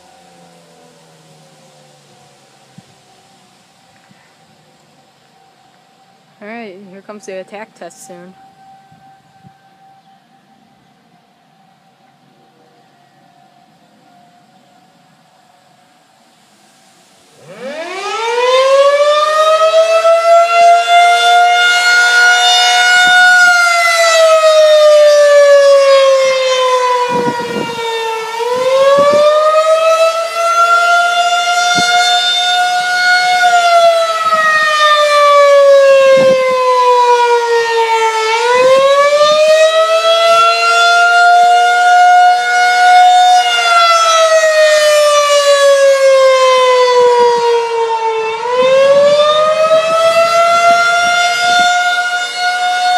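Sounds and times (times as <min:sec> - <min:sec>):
rotating siren wailing: 0:00.0 - 0:15.9, 0:17.3 - 0:52.9.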